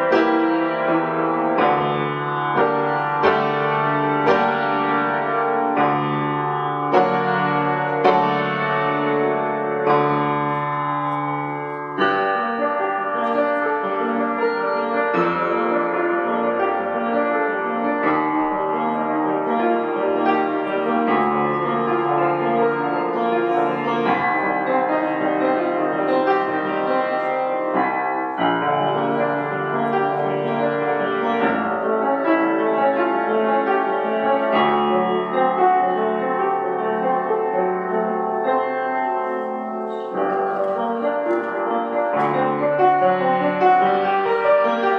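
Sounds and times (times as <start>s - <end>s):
solo piano playing: 0.0s - 44.9s.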